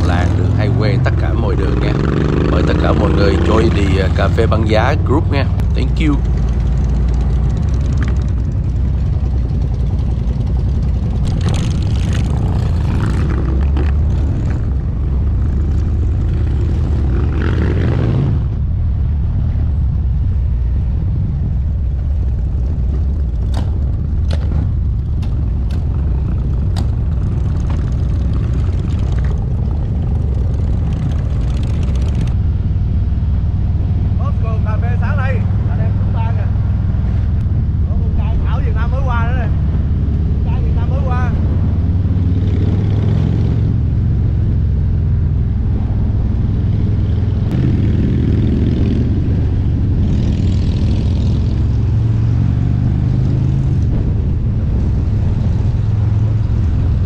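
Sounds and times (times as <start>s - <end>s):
motorcycle engine running: 0.0s - 18.8s, 20.6s - 57.0s
wind on microphone: 0.0s - 57.0s.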